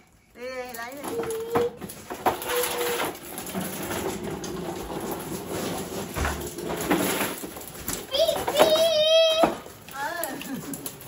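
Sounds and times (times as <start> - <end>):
toy truck wheels rattling on concrete: 0.4 - 11.0.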